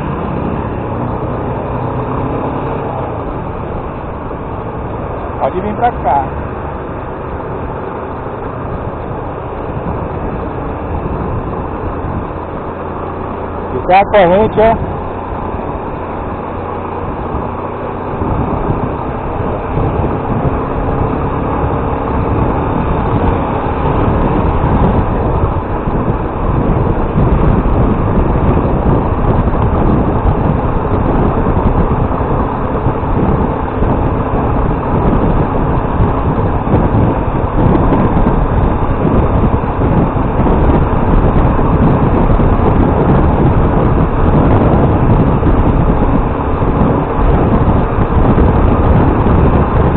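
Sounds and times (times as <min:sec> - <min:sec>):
motorcycle engine running: 0:00.0 - 0:49.9
wind noise: 0:00.0 - 0:49.9.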